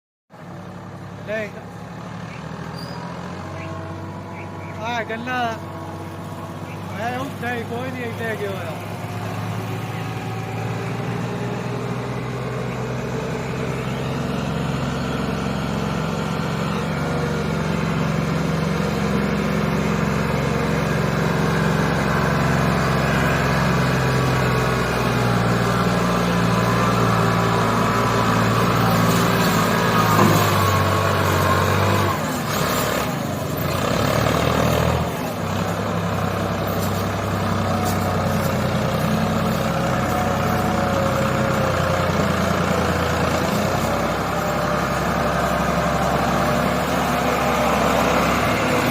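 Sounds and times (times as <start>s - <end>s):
diesel tractor engine running: 0.3s - 48.9s.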